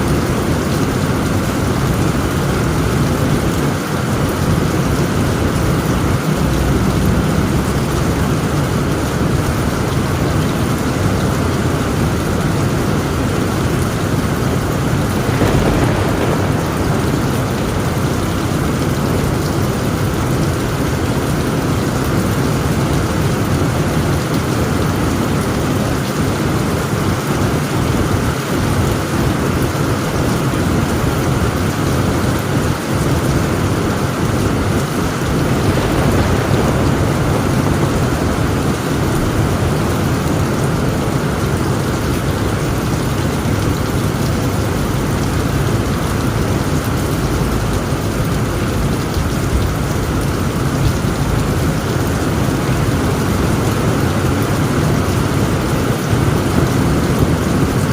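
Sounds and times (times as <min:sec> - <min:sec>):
heavy rain on a tent roof: 0:00.0 - 0:57.9
low rumble of thunder: 0:00.0 - 0:57.9.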